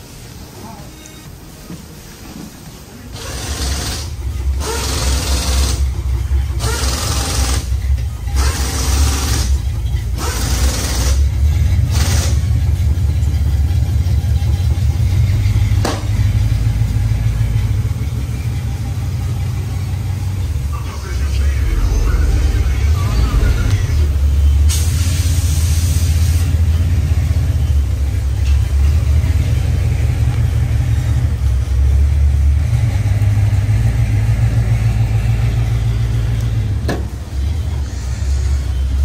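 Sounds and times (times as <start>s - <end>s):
car engine revving and idling: 3.0s - 39.0s.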